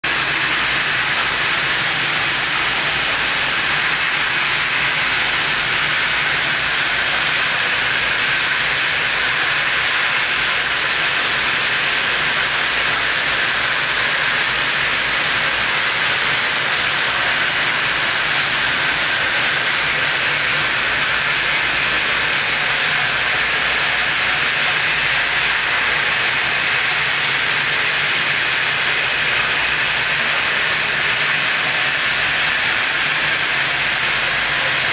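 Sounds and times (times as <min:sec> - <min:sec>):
loud steady hiss: 0:00.0 - 0:34.9.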